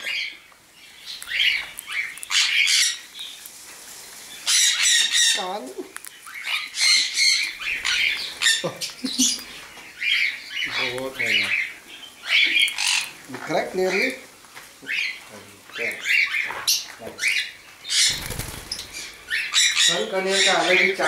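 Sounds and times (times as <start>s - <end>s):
parrots screeching: 1.1s - 3.3s, 4.4s - 15.2s, 15.8s - 21.0s.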